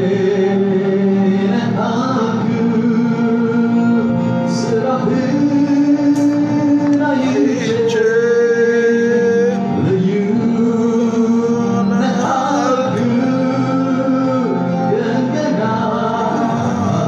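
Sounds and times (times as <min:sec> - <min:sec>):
instrumental backing: 0:00.0 - 0:17.0
man singing worship song: 0:00.0 - 0:17.0.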